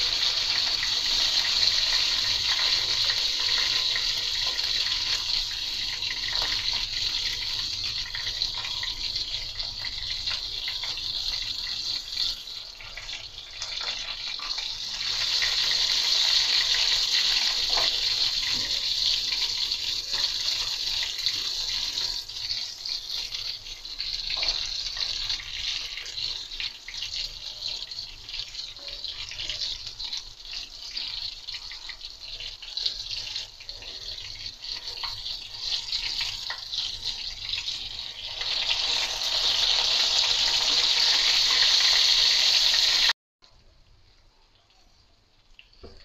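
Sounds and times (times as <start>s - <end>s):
meat sizzling in hot oil: 0.0s - 43.2s.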